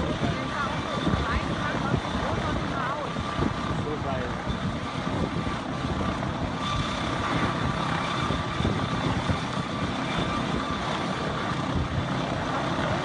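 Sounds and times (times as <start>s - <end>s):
helicopter engine and rotor rumble: 0.0s - 13.0s
high turbine whine: 0.0s - 13.0s.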